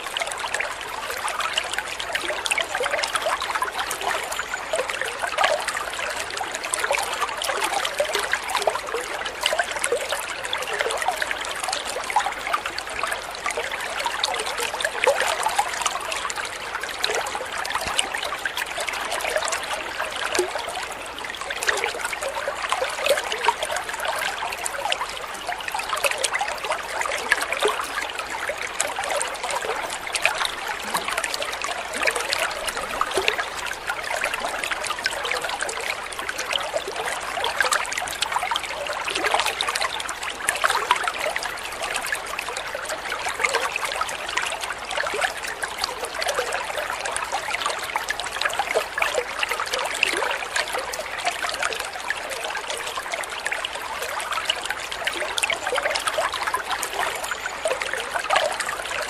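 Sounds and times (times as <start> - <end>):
water trickling into pond: 0.0 - 59.0.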